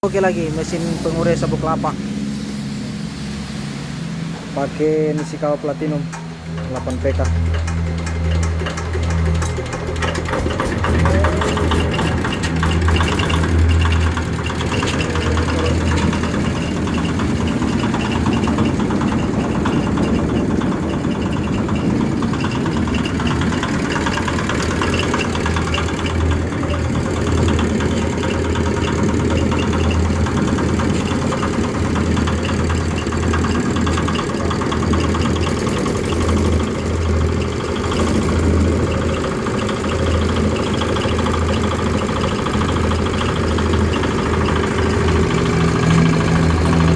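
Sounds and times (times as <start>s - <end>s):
engine driving machine: 0.0s - 46.9s.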